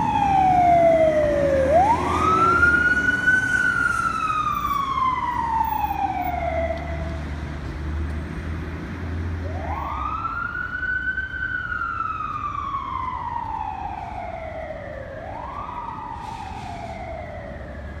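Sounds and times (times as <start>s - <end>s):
fire engine siren wailing: 0.0s - 7.4s, 9.4s - 18.0s.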